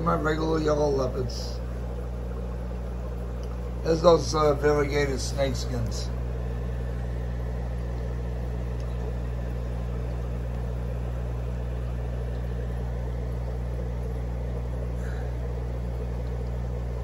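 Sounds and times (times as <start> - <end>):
air pump humming: 0.0 - 17.0.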